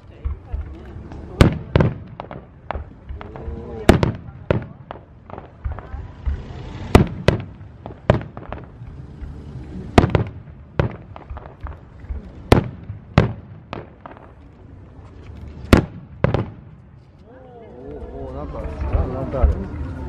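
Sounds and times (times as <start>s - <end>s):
fireworks bangs with echo: 0.0s - 14.7s, 15.6s - 17.0s.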